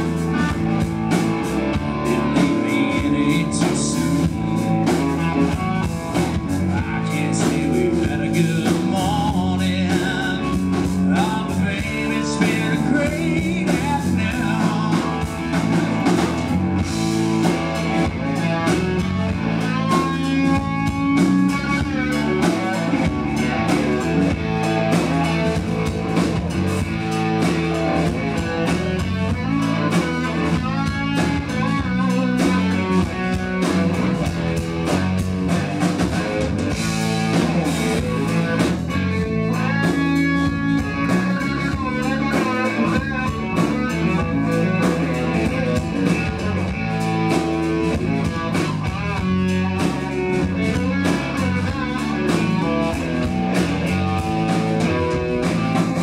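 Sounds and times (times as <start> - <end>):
bass guitar: 0.0 - 56.0
drum kit: 0.0 - 56.0
electric guitar lead: 0.0 - 56.0.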